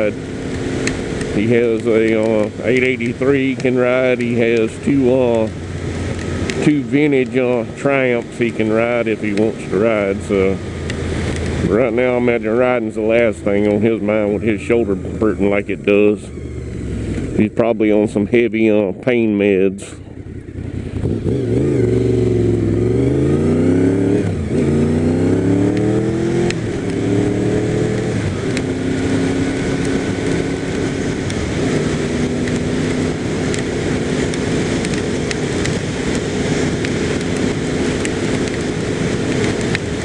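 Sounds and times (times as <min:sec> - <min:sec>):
motorcycle engine: 0:00.0 - 0:40.0.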